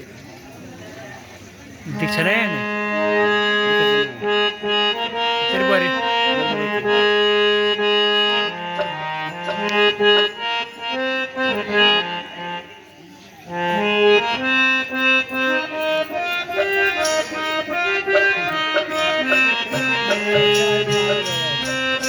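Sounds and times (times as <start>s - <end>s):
harmonium melody: 1.8s - 22.0s.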